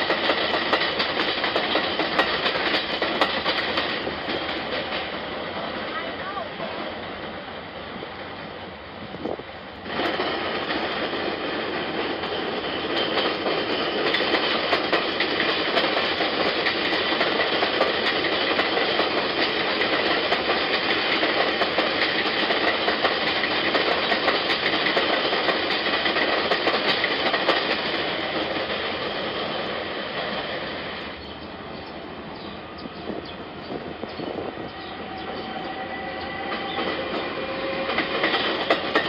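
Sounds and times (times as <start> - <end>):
wheels clattering over rails: 0.0 - 7.4, 9.8 - 31.0, 34.2 - 39.0
train rumbling on elevated track: 0.0 - 39.0.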